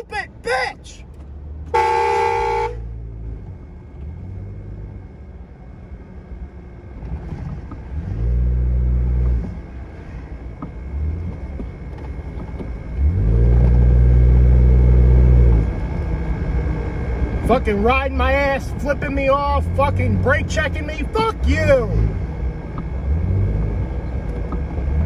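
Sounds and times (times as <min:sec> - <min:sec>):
vehicle engine and road rumble: 0:00.0 - 0:25.0.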